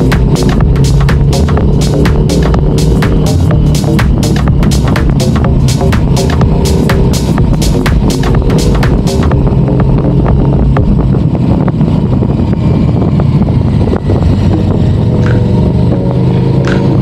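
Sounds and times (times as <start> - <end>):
electronic music beats: 0.0 - 11.3, 14.4 - 17.0
motorcycle engine running: 0.0 - 17.0
wind noise on microphone: 0.0 - 17.0.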